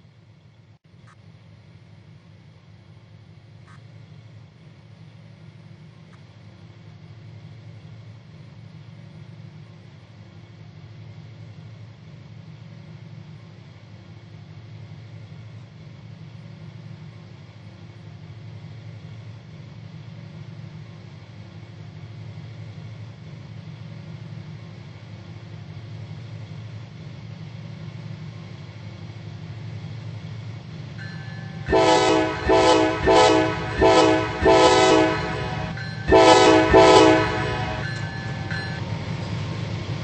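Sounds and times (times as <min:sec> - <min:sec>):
freight train rumbling: 0:00.0 - 0:40.0.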